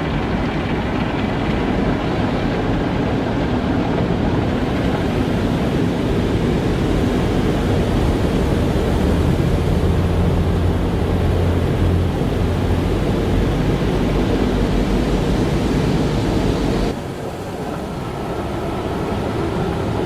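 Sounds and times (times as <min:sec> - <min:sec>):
car wash motor hum: 0:00.0 - 0:20.0.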